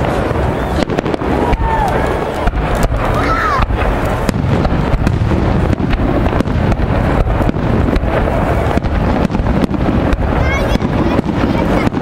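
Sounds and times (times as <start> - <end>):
fireworks bangs and crackles: 0.0 - 12.0
wind rumble on microphone: 0.0 - 12.0.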